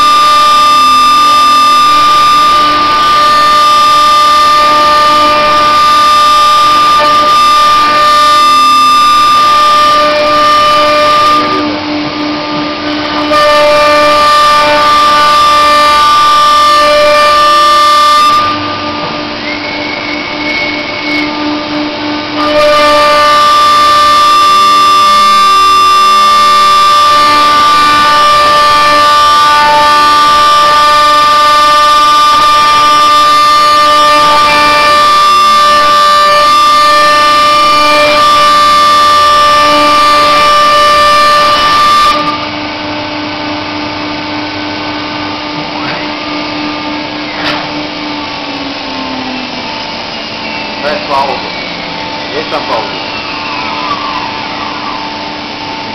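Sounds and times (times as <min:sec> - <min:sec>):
router spindle whining: 0:00.0 - 0:55.9.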